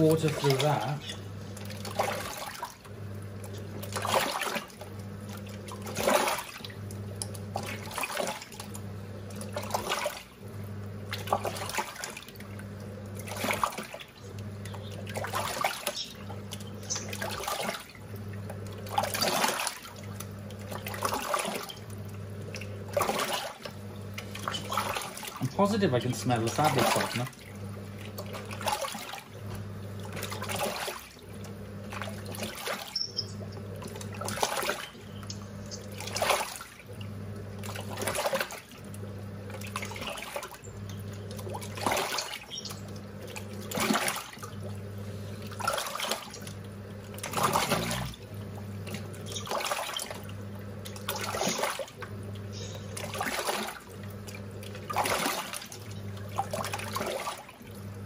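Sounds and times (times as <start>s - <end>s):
washing machine motor humming: 0.0s - 58.0s
water sloshing and splashing: 0.0s - 58.0s.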